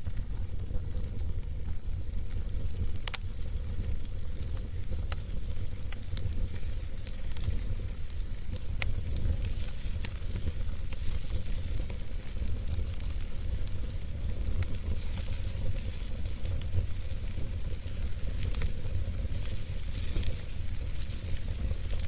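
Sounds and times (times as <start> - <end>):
wood fire crackling: 0.0 - 22.0
sharp pops of burning wood: 0.4 - 22.0.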